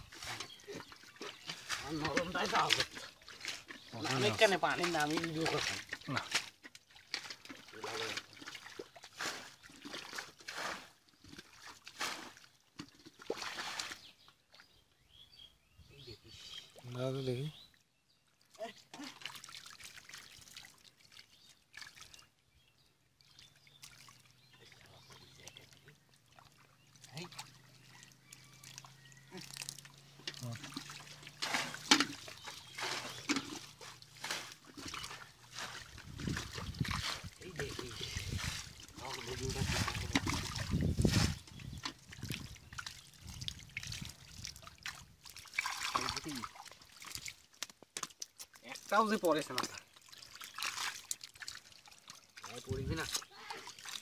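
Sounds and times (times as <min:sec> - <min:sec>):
fish splashing in water: 0:00.0 - 0:14.2, 0:18.9 - 0:22.3, 0:23.2 - 0:54.0.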